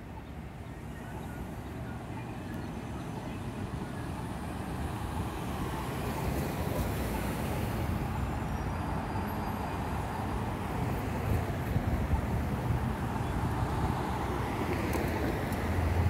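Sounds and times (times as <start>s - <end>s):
cars passing close by: 0.0s - 16.0s.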